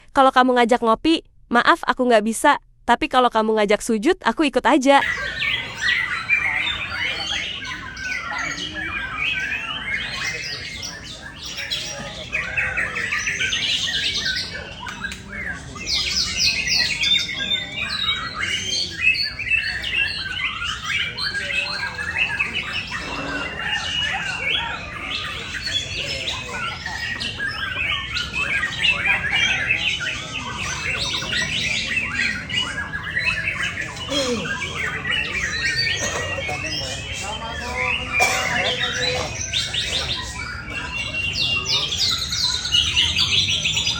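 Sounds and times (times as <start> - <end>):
bird singing with fast trills: 5.0 - 43.9.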